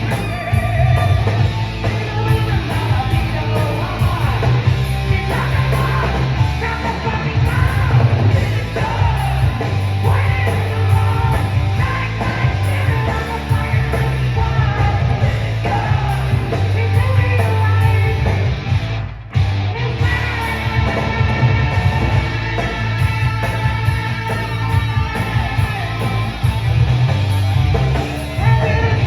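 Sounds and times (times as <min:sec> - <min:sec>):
man singing and shouting: 0:00.0 - 0:18.7, 0:19.6 - 0:26.2, 0:28.2 - 0:29.0
heavy metal band playing: 0:00.0 - 0:29.0.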